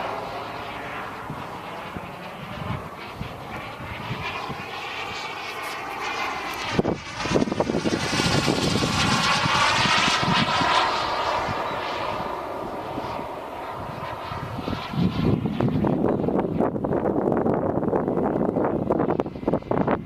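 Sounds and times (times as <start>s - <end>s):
low rumbling: 0.0s - 20.0s
model jet turbine engine: 0.0s - 20.0s.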